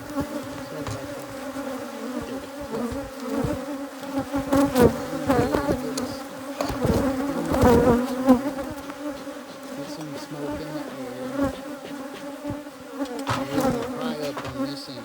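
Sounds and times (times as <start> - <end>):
single bee flying past: 0.0 - 14.9
bees buzzing drone: 0.0 - 15.0.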